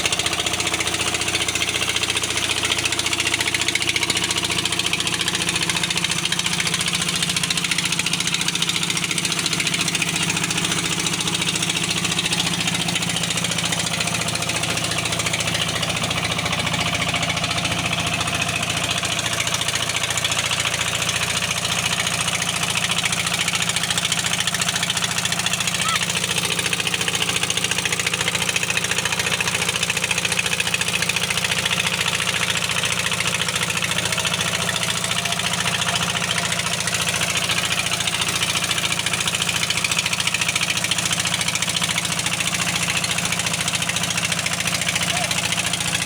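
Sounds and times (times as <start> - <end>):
diesel engine running steadily: 0.0 - 46.0.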